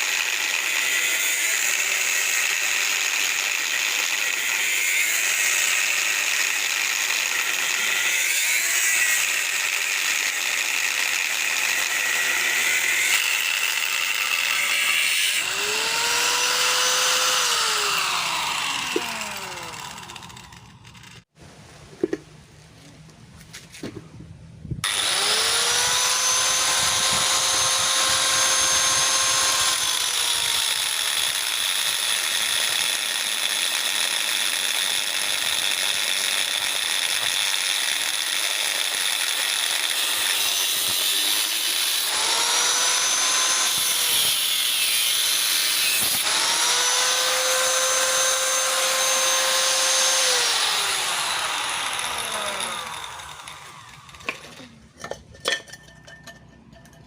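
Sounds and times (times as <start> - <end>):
angle grinder cutting metal: 0.0 - 21.3, 24.8 - 55.2.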